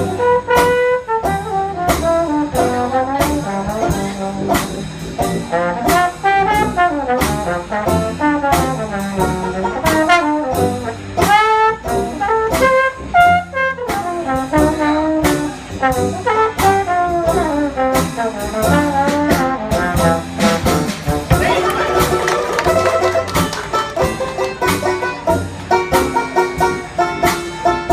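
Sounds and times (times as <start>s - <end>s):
brass band playing jazz: 0.0s - 27.9s.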